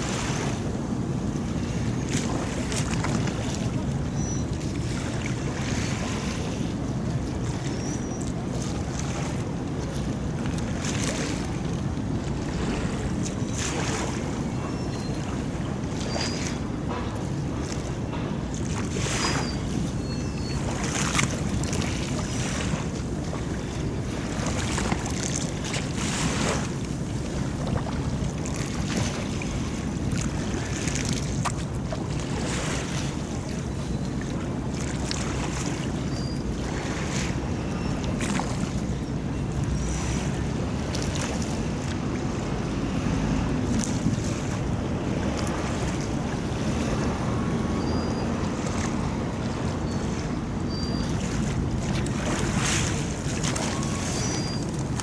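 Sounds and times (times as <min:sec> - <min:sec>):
waves lapping against shore: 0:00.0 - 0:55.0.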